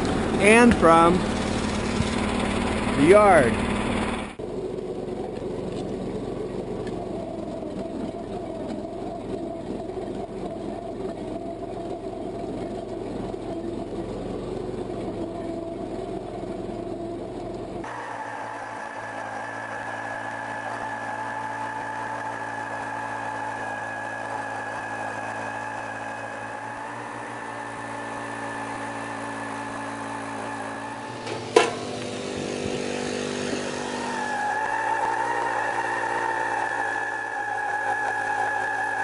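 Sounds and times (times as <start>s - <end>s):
trencher engine running: 0.0s - 39.0s.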